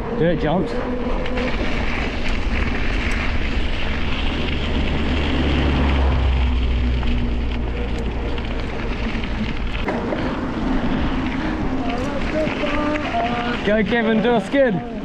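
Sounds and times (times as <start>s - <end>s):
bicycle rolling noise: 0.0s - 15.0s
wind buffeting microphone: 0.0s - 15.0s.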